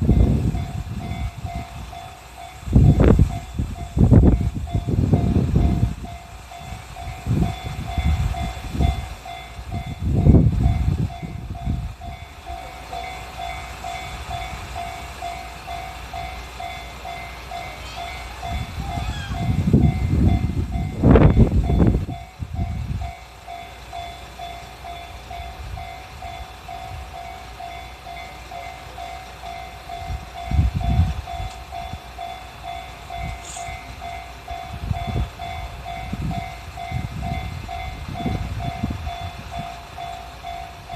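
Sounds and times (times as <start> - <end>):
level crossing warning bell ringing: 0.0 - 40.9
train rumbling: 0.0 - 40.9.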